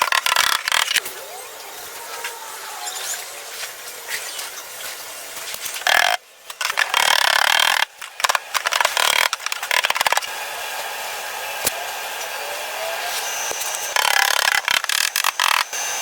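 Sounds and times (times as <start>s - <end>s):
power tool abrading: 0.0s - 16.0s.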